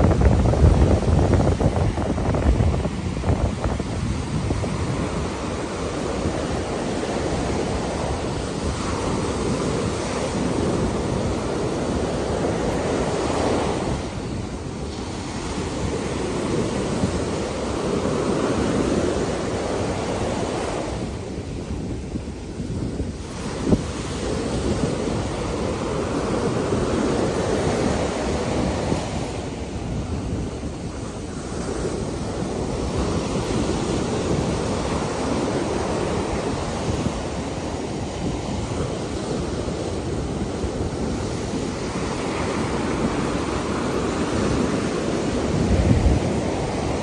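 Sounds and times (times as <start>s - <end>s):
waves breaking on sand beach: 0.0s - 47.0s
wind on microphone: 0.0s - 47.0s.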